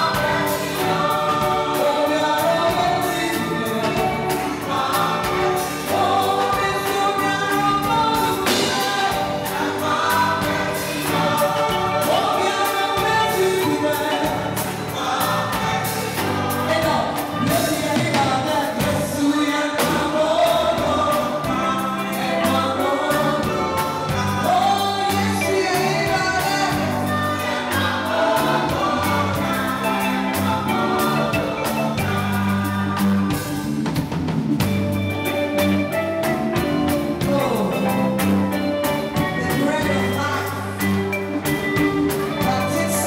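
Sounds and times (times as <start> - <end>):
woman singing into microphone: 0.0 - 33.7, 39.1 - 41.0, 41.8 - 43.0
gospel choir singing: 0.0 - 43.0
instrumental backing with percussion: 0.0 - 43.0.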